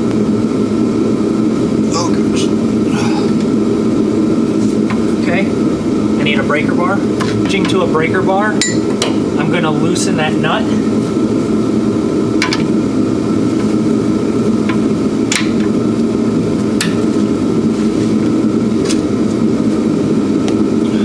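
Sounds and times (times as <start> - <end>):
heater humming: 0.0 - 21.0.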